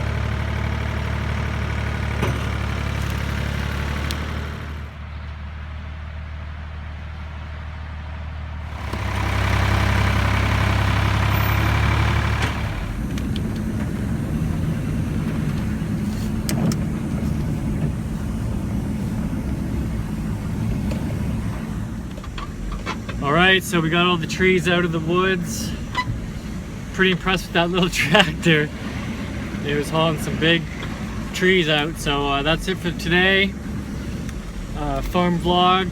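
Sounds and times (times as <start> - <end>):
small tractor engine running: 0.0 - 5.3, 8.7 - 35.9.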